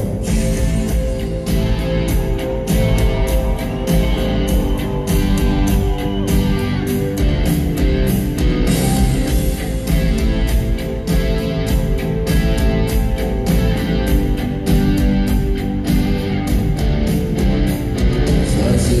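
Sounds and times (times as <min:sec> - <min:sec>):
bass guitar: 0:00.0 - 0:19.0
electric guitars: 0:00.0 - 0:19.0
steady drum beat: 0:00.0 - 0:19.0.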